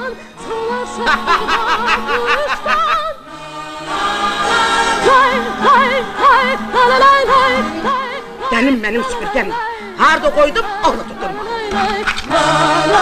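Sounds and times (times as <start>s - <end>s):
person singing with heavy vibrato: 0.0s - 13.0s.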